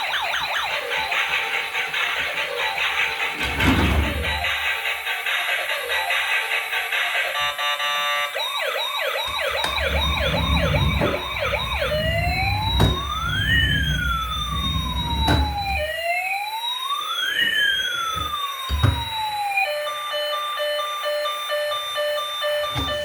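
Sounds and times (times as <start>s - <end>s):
electronic toy siren: 0.0s - 23.0s.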